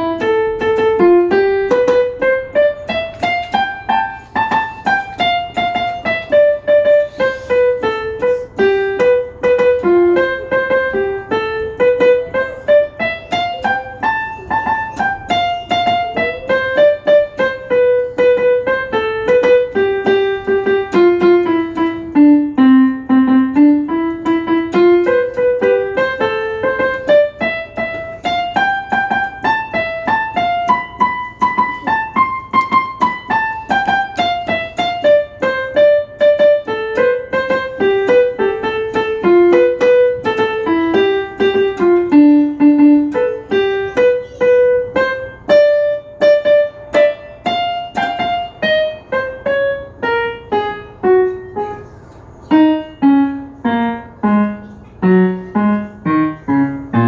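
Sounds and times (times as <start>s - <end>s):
piano melody: 0.0s - 57.0s.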